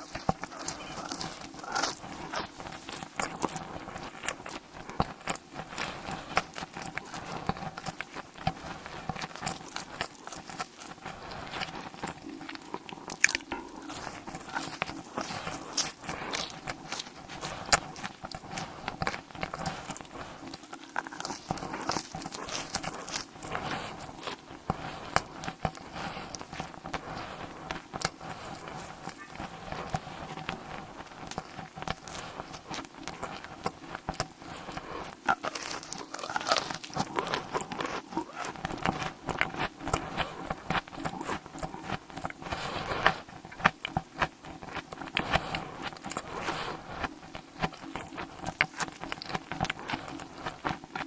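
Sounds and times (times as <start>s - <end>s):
biting and chewing: 0.0s - 51.0s.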